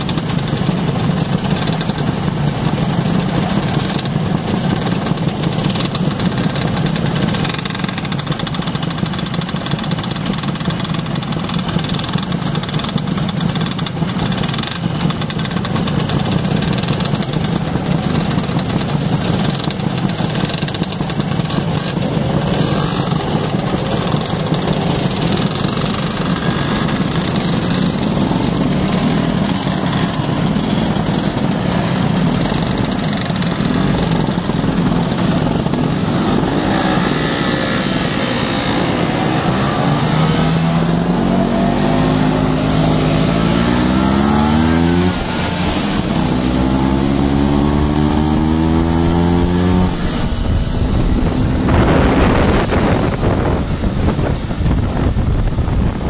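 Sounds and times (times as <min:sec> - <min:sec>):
motor scooter engines idling: 0:00.0 - 0:56.0
scooter engine accelerating: 0:00.0 - 0:56.0.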